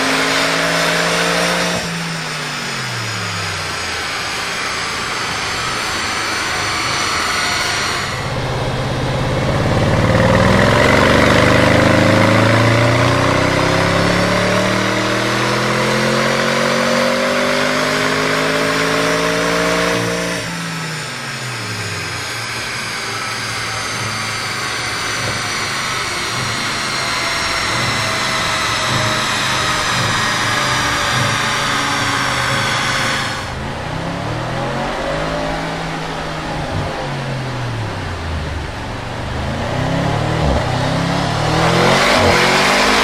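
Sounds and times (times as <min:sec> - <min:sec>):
car engine revving on a dyno: 0:00.0 - 0:43.0.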